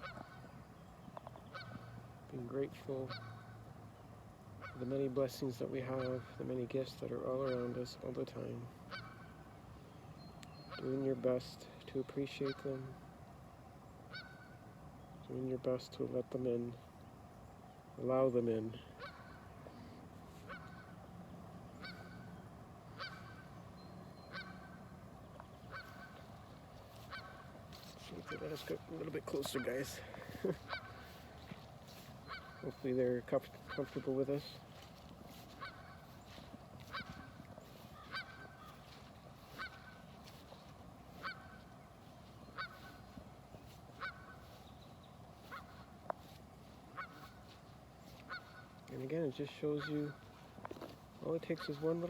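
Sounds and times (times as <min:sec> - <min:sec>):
geese honking: 0:00.0 - 0:00.6, 0:01.4 - 0:03.8, 0:04.6 - 0:09.8, 0:10.6 - 0:13.2, 0:14.0 - 0:14.8, 0:18.3 - 0:52.0.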